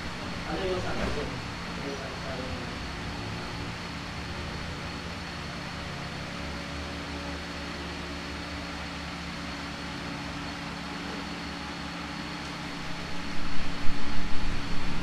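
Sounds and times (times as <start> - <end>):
electric fan humming: 0.0 - 15.0
high whine: 0.0 - 15.0.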